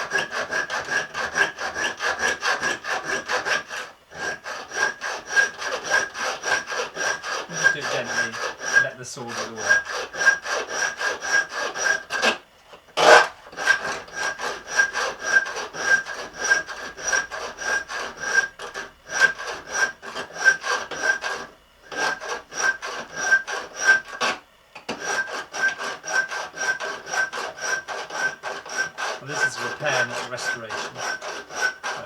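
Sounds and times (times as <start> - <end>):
hand saw rasping into wood: 0.0 - 12.4, 13.0 - 32.0.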